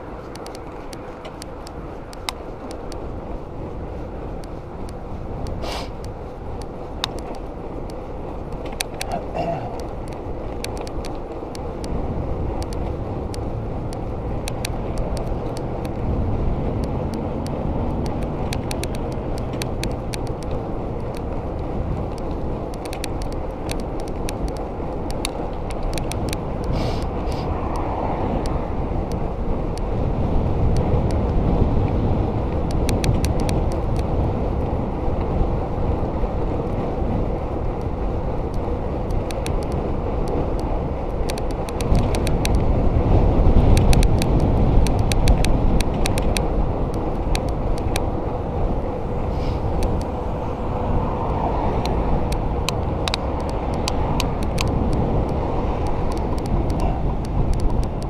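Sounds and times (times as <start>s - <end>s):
bike clicks and rattles: 0.0s - 58.0s
bike tyre noise on road: 0.0s - 58.0s
wind rushing over microphone: 0.0s - 58.0s.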